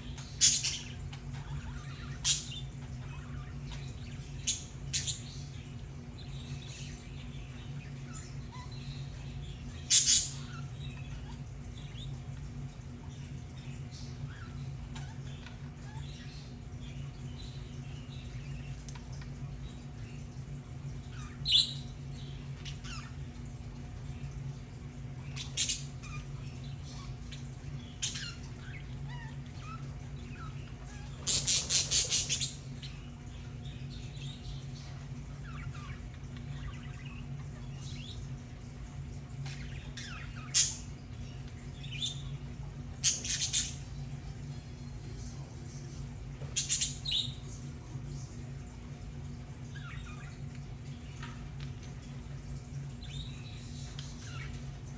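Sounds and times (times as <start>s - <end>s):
budgerigars chirping and squawking: 0.0s - 19.9s, 21.0s - 23.6s, 25.0s - 44.4s, 46.4s - 47.8s, 49.5s - 52.3s
steady low hum: 0.0s - 54.9s.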